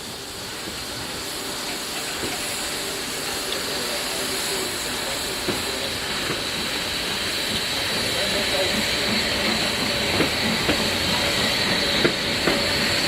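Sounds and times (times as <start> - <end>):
steam locomotive hissing: 0.0 - 13.0.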